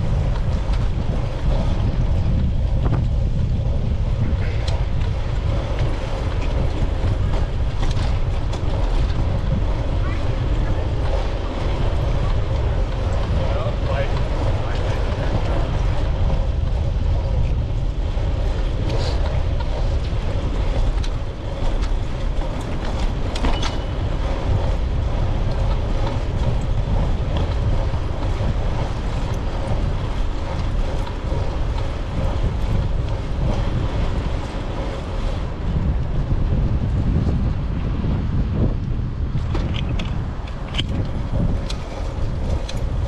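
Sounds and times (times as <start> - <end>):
wind rumbling on microphone: 0.0 - 43.0
faint clicks and rattles: 3.8 - 35.3, 39.4 - 43.0.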